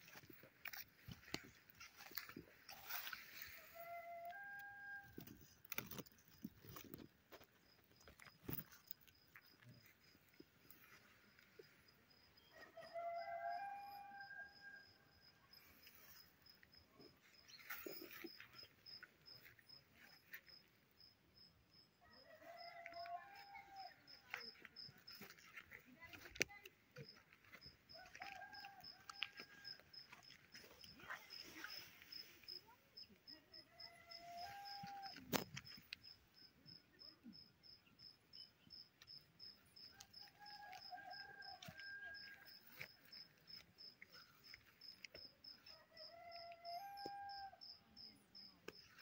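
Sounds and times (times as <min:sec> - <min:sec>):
cricket chirping: 0:00.0 - 0:49.0.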